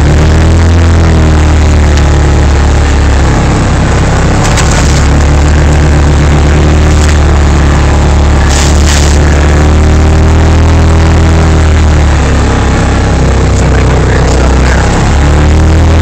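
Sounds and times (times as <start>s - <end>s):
engine droning under load: 0.0s - 16.0s.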